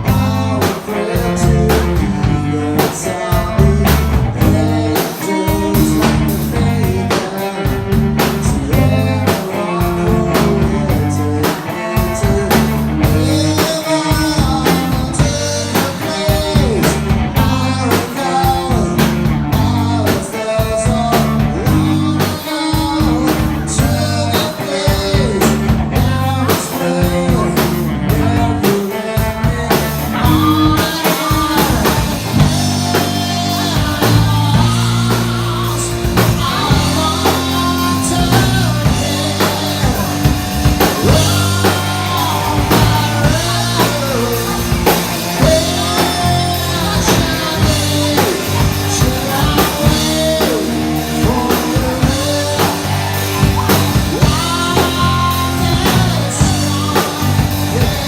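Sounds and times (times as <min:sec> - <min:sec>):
bending guitar melody: 0:00.0 - 0:58.0
rock band playing live: 0:00.0 - 0:58.0.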